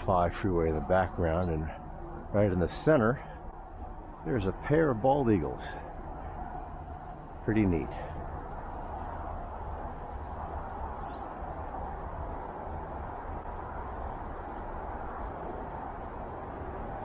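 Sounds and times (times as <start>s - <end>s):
bicycle riding noise: 0.0s - 17.0s
wind rumble on microphone: 0.0s - 17.0s.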